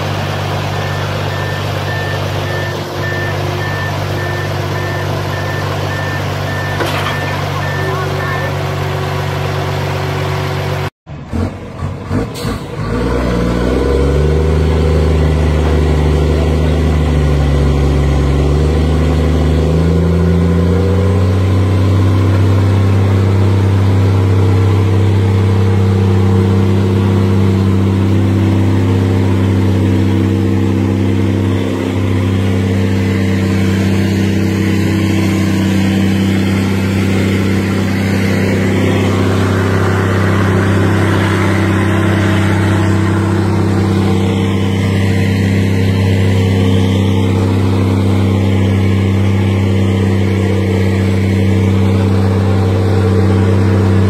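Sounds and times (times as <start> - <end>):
truck diesel engine revving: 0.0 - 54.0.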